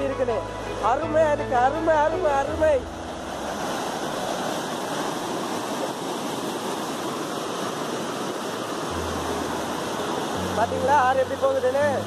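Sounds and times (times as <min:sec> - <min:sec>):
river water rushing over weir: 0:00.0 - 0:12.0.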